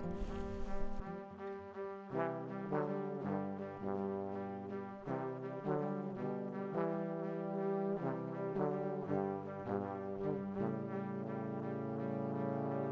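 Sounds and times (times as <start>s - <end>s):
background music of held chords: 0.0s - 12.9s.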